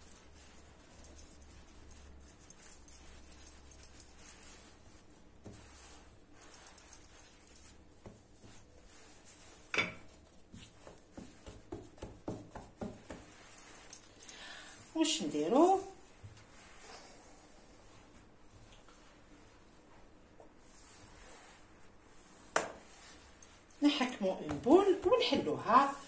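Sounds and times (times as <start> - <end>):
hands rubbing and patting dough: 0.0 - 26.0.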